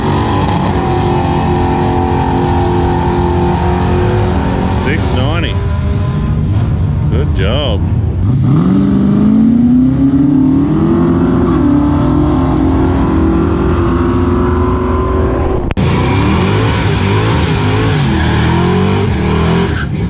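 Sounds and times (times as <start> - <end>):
drag cars accelerating hard: 0.0 - 7.1, 8.1 - 20.0
car engine revving unevenly: 0.0 - 20.0.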